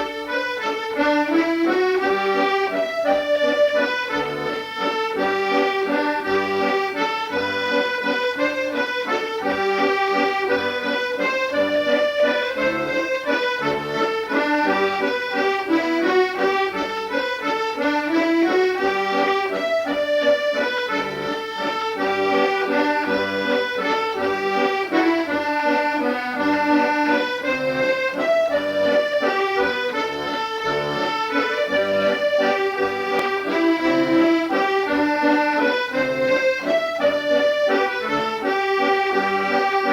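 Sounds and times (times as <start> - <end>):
accordion music: 0.0 - 39.9.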